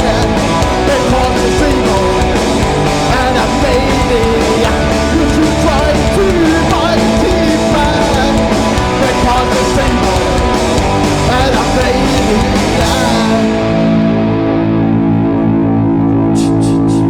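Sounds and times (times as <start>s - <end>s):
distorted guitar chord ringing: 0.0s - 17.0s
punk band playing: 0.0s - 17.0s.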